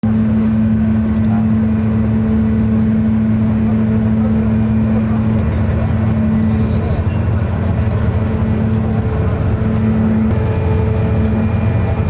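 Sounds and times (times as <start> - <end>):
large engine humming: 0.0 - 12.0.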